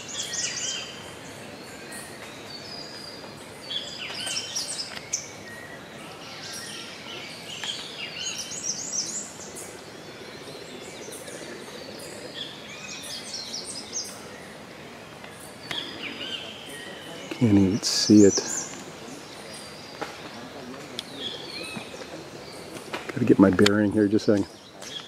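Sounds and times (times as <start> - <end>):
steady background hiss: 0.0 - 25.0
wild birds chirping: 0.0 - 25.0.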